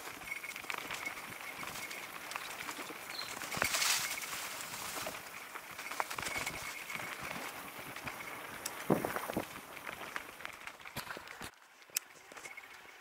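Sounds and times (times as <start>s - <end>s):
bike clicks and rattles: 0.0s - 13.0s
bike tyres rolling on dirt: 0.0s - 13.0s.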